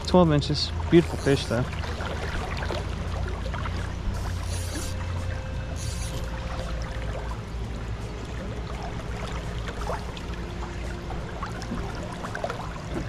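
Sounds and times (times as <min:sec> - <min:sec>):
river water flowing: 0:00.0 - 0:13.0
small splashes: 0:00.7 - 0:13.0.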